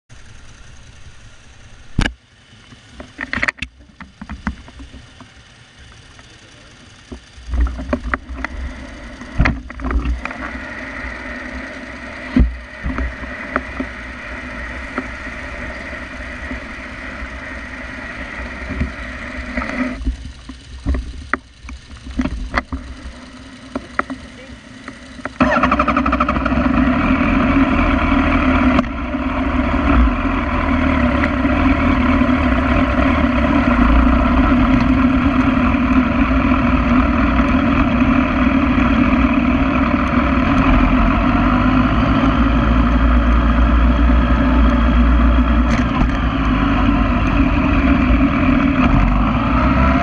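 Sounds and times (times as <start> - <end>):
motorcycle engine idling: 0.1 - 50.0.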